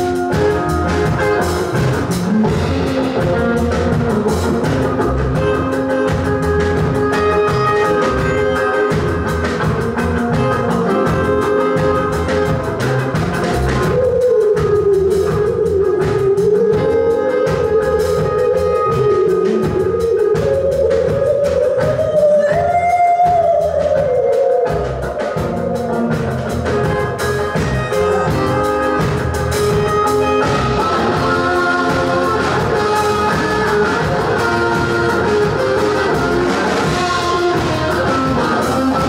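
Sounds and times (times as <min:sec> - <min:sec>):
drum kit beat: 0:00.0 - 0:39.0
electric guitar and bass: 0:00.0 - 0:39.0
wavering lead melody: 0:00.0 - 0:39.0.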